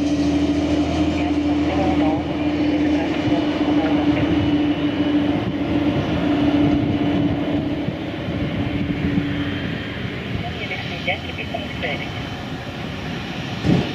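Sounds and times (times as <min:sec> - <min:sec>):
jet engines droning: 0:00.0 - 0:13.9.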